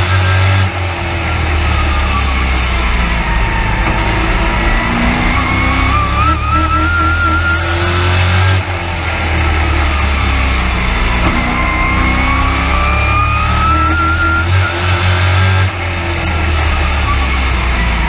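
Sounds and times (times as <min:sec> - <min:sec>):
race truck engine revving: 0:00.0 - 0:18.0.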